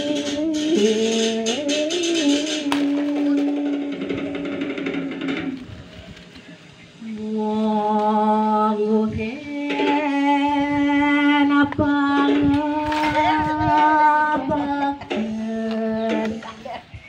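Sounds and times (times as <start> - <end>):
voices chanting held notes: 0.0 - 17.0.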